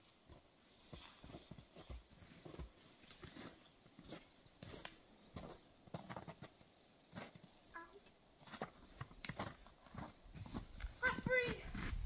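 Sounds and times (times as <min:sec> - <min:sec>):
rustling on dry forest floor: 0:00.0 - 0:12.0.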